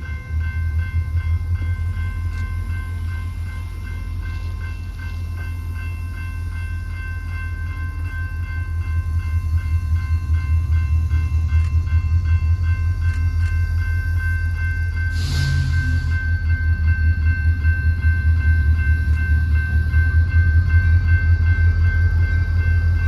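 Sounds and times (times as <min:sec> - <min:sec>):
freight train rumbling past: 0:00.0 - 0:23.0
steady ringing tones: 0:00.0 - 0:23.0.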